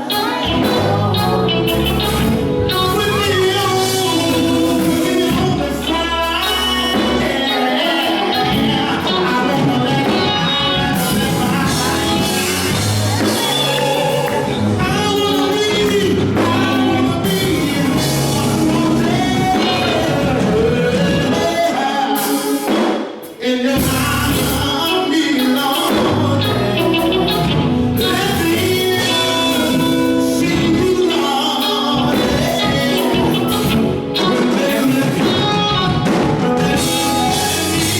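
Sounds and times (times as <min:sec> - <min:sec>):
instrumental music: 0:00.0 - 0:37.9
person singing: 0:00.0 - 0:37.9.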